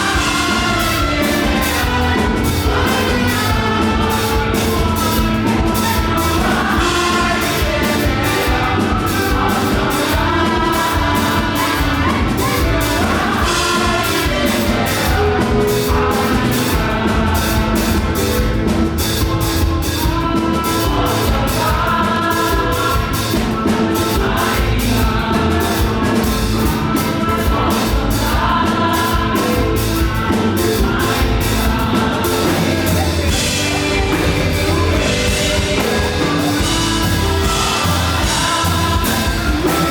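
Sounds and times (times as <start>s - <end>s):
band with fast drum beat: 0.0s - 39.9s
voices singing gospel: 0.0s - 39.9s.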